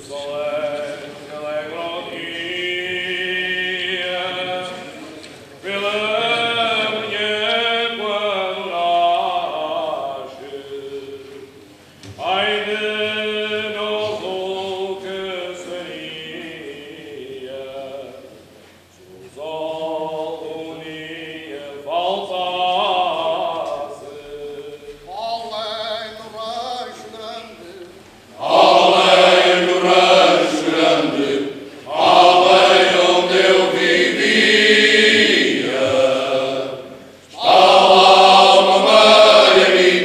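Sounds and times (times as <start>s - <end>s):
men's choir singing unaccompanied: 0.0s - 18.6s, 19.2s - 40.0s.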